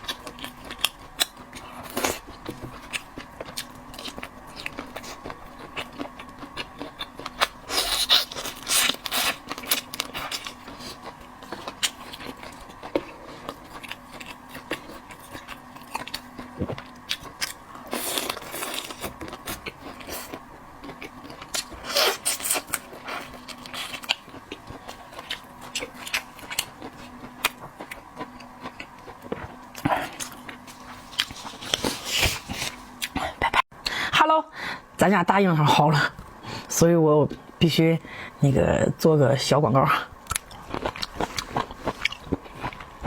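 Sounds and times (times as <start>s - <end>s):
person chewing food: 0.0s - 34.0s, 40.2s - 43.0s
faint steady hum: 0.0s - 43.0s.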